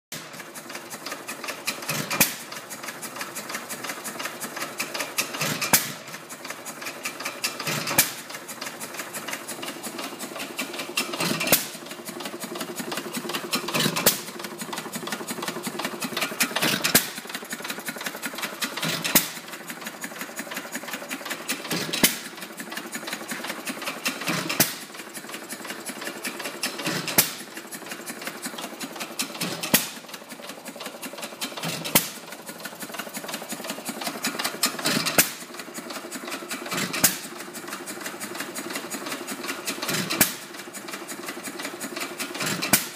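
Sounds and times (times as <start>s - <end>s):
engine coasting clatter: 0.1s - 42.9s.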